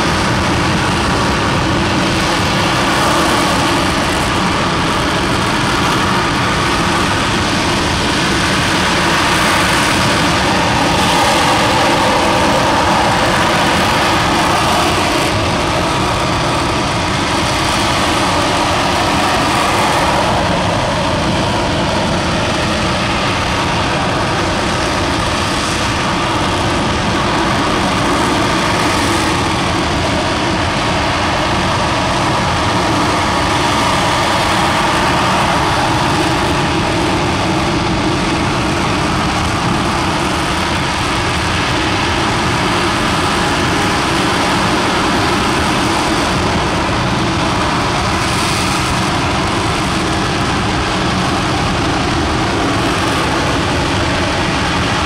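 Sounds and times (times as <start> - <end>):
rocket engine roaring: 0.0 - 55.0.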